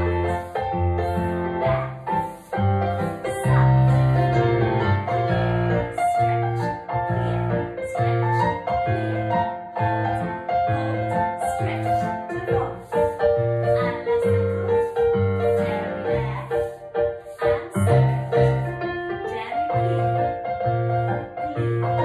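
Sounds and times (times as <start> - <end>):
piano tune with clear beat: 0.0 - 22.0.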